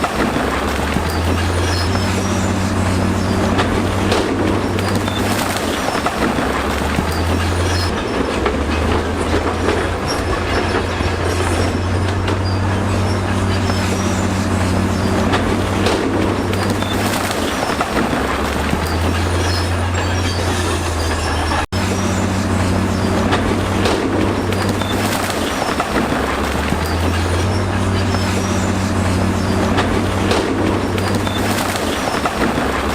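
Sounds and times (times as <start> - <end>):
diesel engine under load: 0.0 - 32.9
rocks scraping and grinding: 0.0 - 32.9
steel tracks clanking and squealing: 0.0 - 32.9.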